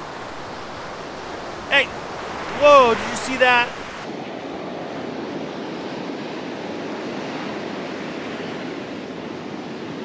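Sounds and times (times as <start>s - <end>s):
ocean surf washing on beach: 0.0s - 10.0s.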